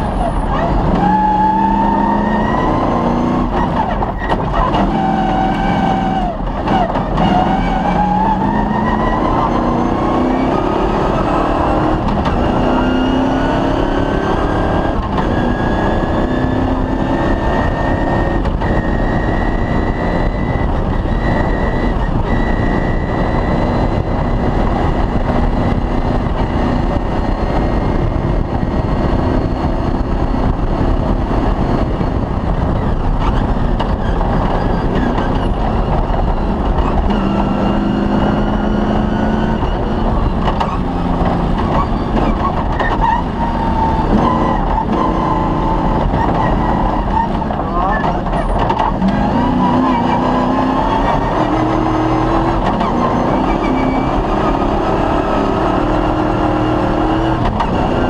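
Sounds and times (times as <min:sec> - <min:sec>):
rally car engine revving: 0:00.0 - 0:58.0
rough rumble of car at speed: 0:00.0 - 0:58.0.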